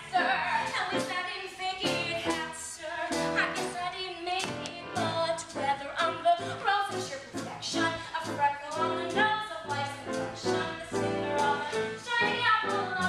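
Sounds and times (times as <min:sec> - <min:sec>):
musical accompaniment: 0:00.0 - 0:13.0
women singing a show tune: 0:00.0 - 0:13.0.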